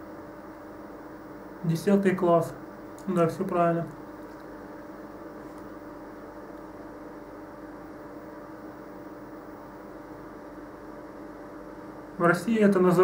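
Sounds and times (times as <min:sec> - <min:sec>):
equipment hum with faint hiss: 0:00.0 - 0:13.0.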